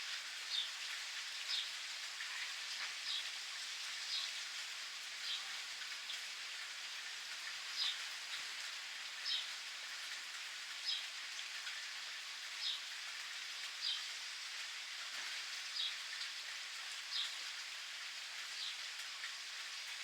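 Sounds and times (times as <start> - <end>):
steady rain pattering: 0.0 - 20.0.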